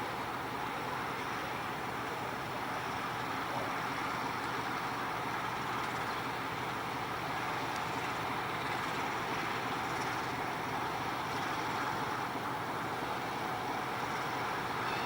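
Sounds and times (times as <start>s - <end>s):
freight train running: 0.0s - 15.0s.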